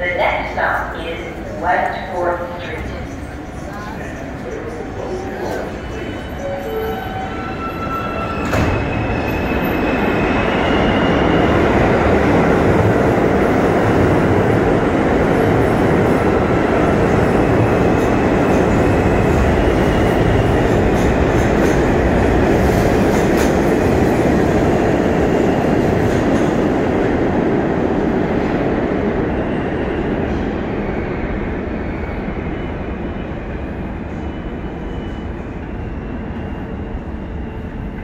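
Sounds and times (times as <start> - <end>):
subway train passing: 0.0 - 38.0.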